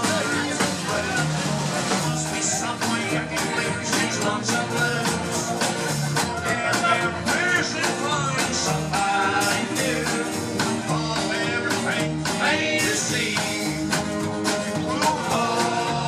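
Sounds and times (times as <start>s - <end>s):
country rock band playing: 0.0s - 16.0s
person singing: 0.0s - 16.0s.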